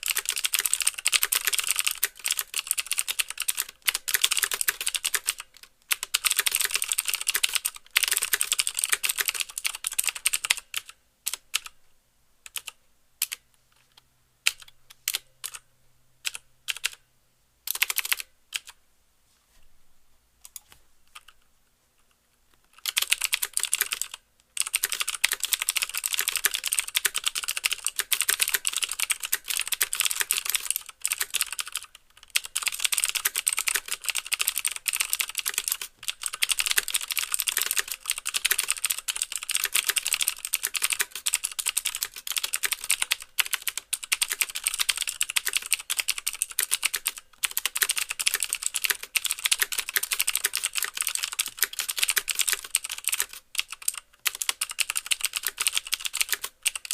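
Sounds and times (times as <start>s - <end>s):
fast typing on mechanical keyboard: 0.0s - 11.7s, 12.5s - 13.4s, 16.3s - 17.0s, 17.7s - 18.7s, 22.8s - 56.9s.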